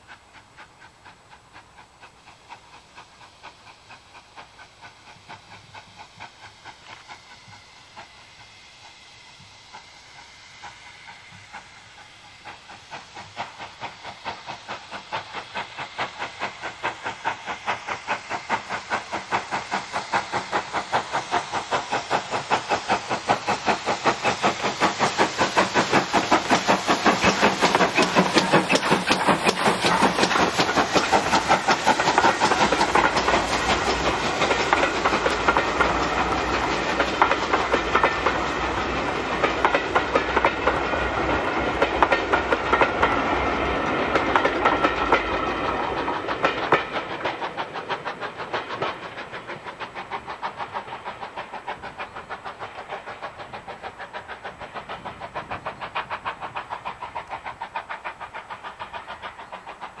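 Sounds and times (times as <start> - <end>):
wheels clicking over rail joints: 0.0 - 8.1, 11.3 - 60.0
steam train passing: 0.0 - 60.0.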